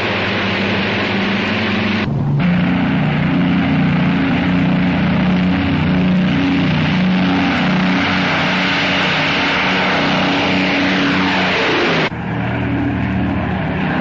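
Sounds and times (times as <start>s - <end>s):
bomber piston engines droning: 0.0s - 14.0s.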